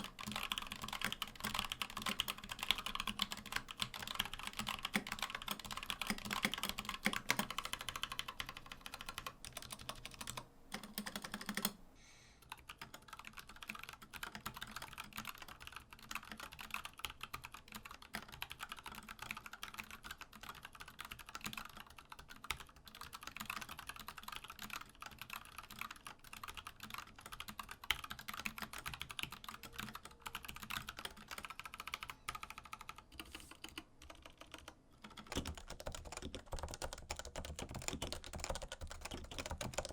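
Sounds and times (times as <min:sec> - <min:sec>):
typing on mechanical keyboard: 0:00.0 - 0:11.8, 0:12.4 - 0:39.9.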